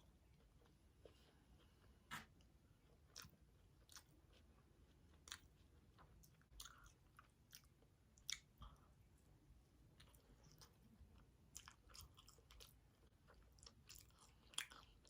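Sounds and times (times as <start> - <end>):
chewing pizza: 0.0 - 15.0.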